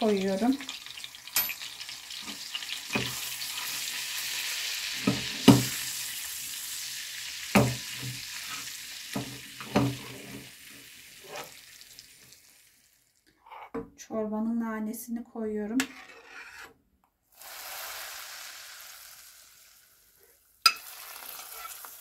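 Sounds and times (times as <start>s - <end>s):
herbs sizzling in hot oil: 0.0s - 13.2s, 17.3s - 22.0s.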